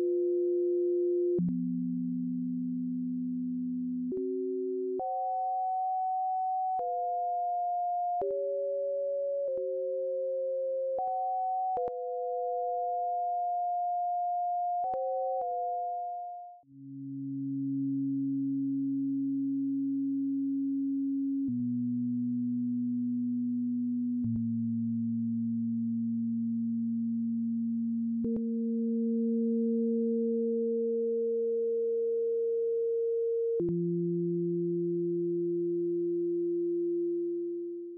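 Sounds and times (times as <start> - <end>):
steady sine tones: 0.0 - 37.9.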